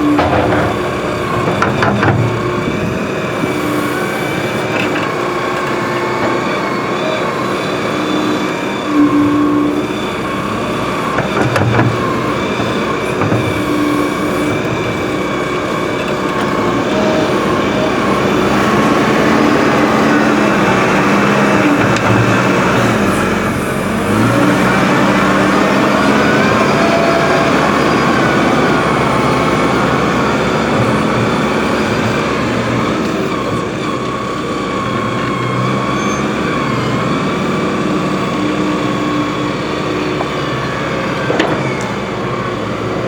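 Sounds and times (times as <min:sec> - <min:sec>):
diesel backhoe engines working: 0:00.0 - 0:43.0.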